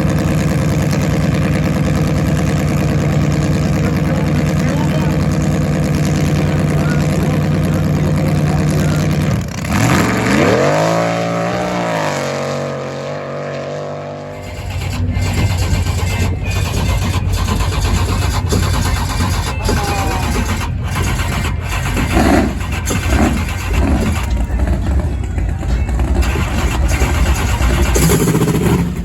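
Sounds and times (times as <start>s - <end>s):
jet boat engines revving: 0.0s - 29.0s.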